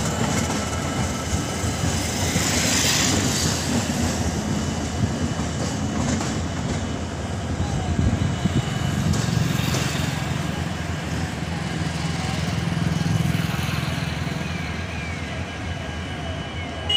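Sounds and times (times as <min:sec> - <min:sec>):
train coaches rumbling on tracks: 0:00.0 - 0:16.9.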